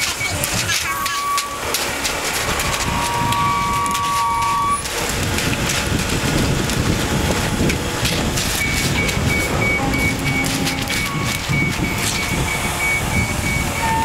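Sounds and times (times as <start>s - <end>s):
concrete truck engine running: 0.0s - 14.0s
wet concrete pouring down chute: 0.0s - 14.0s.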